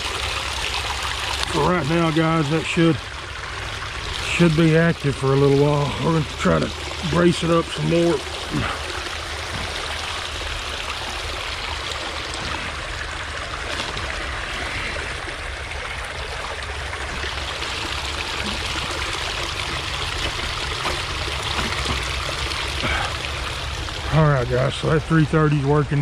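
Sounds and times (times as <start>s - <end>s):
rushing creek water: 0.0s - 26.0s.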